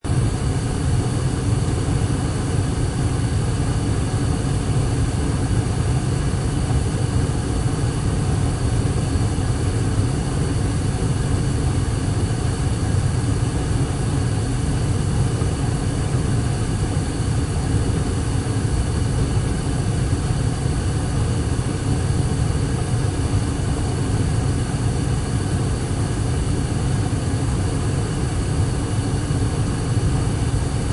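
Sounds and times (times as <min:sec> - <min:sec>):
faint hum tones: 0:00.0 - 0:30.9
furnace roaring: 0:00.0 - 0:30.9.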